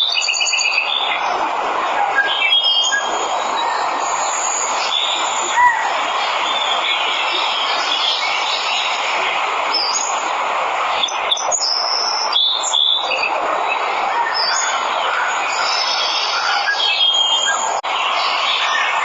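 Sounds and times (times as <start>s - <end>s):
bird calls and chirps: 0.0s - 1.4s, 2.1s - 9.0s, 11.0s - 19.0s
waterfall rushing: 0.0s - 19.0s.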